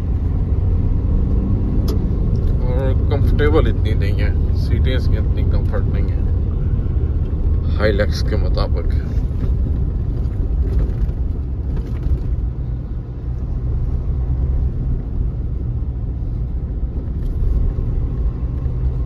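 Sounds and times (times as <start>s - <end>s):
diesel engine rumble: 0.0s - 19.0s
tyres on road: 0.0s - 19.0s.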